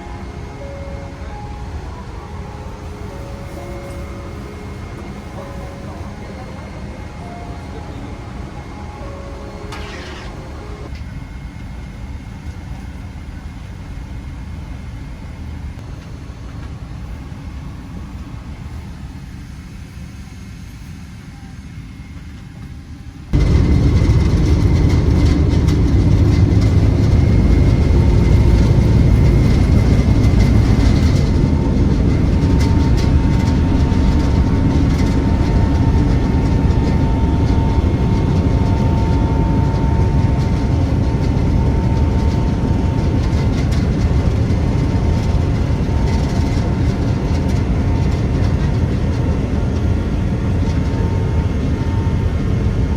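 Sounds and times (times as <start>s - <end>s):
aircraft cabin rumble: 0.0s - 20.3s, 22.2s - 52.9s.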